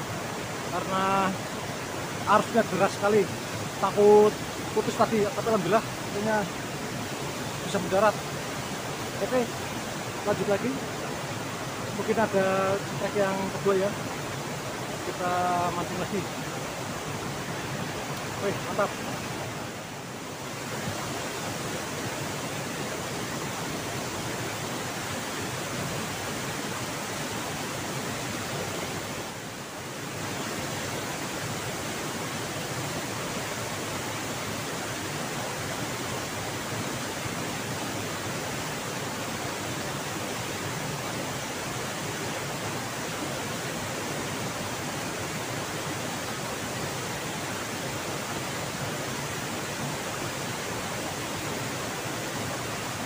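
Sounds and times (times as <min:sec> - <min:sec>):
waterfall and river rushing: 0:00.0 - 0:53.0.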